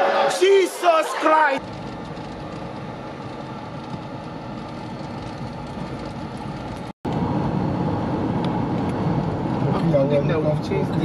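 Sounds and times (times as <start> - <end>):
car driving noise from inside: 1.6 - 11.0.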